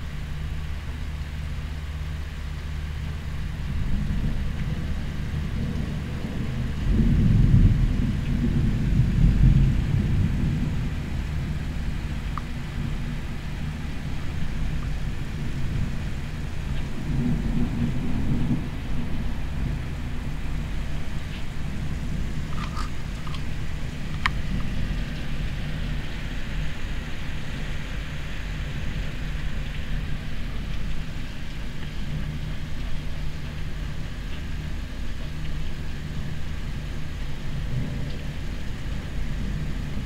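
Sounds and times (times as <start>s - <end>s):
thunder rumbling: 3.2s - 40.0s.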